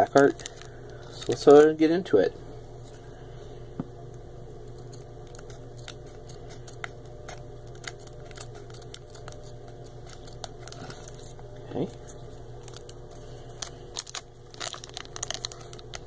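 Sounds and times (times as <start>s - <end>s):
scissors snipping foil wrapper: 0.0s - 1.9s, 4.7s - 16.0s.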